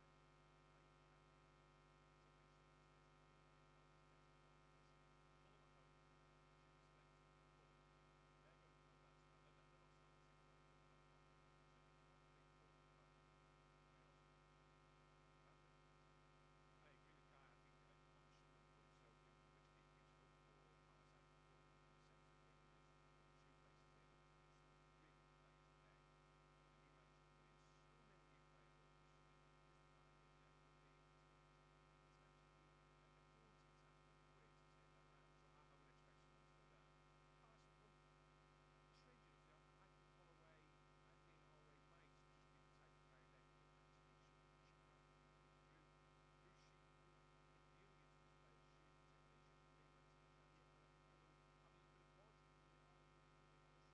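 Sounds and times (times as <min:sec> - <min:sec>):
faint electrical mains hum: 0:00.0 - 0:53.9.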